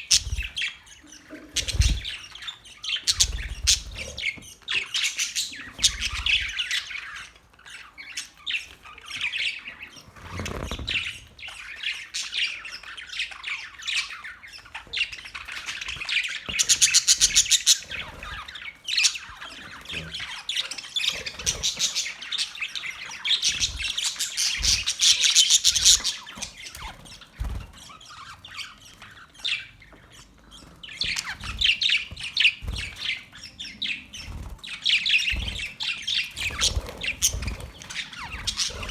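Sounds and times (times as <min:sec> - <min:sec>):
birds chirping in chorus: 0:00.0 - 0:38.9.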